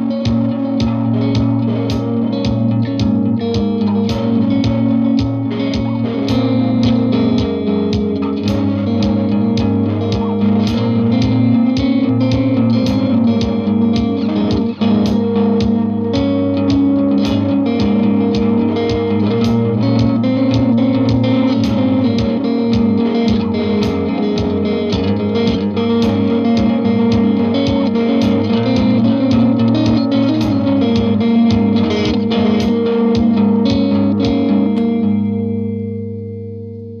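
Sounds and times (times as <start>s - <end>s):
clean electric guitar picking: 0.0s - 37.0s
looped guitar chord: 0.0s - 37.0s.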